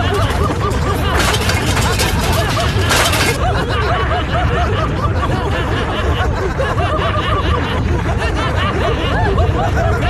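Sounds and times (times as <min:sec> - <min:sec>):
cartoon ostrich laughing: 0:00.0 - 0:10.0
cartoon voices laughing: 0:00.0 - 0:10.0.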